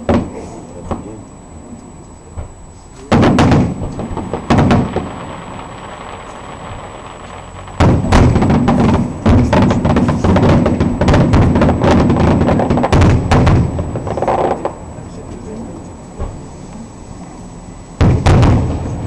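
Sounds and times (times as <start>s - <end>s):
firework bangs: 0.0s - 1.2s, 2.4s - 19.0s.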